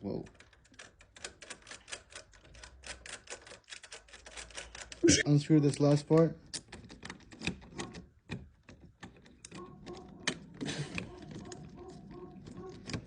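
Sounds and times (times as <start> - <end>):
metal clicks and rattles of deadbolt: 0.2 - 5.0, 5.9 - 13.0.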